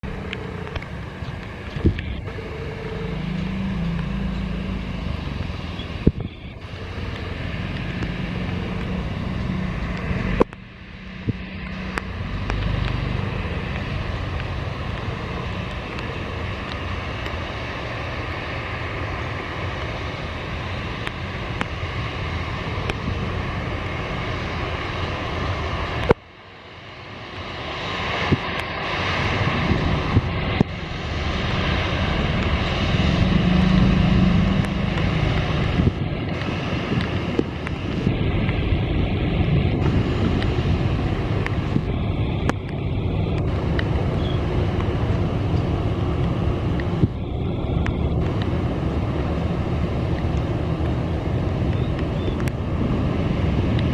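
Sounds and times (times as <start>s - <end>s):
airliner engine roar: 0.0s - 53.9s.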